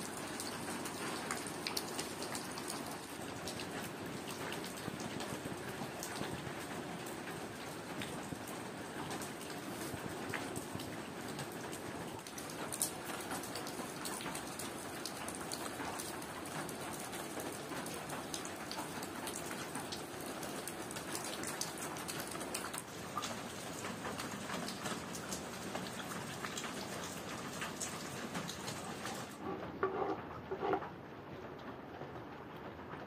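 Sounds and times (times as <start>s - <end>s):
rain pattering and dripping: 0.0s - 33.0s.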